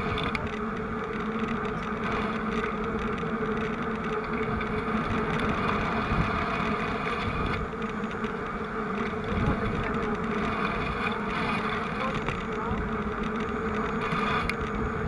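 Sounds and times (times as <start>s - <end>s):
vehicle engines idling: 0.0s - 15.0s.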